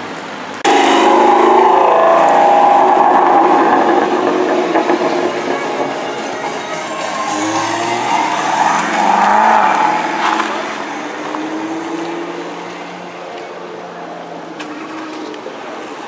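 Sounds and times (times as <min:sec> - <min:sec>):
car engine accelerating: 0:00.6 - 0:15.4.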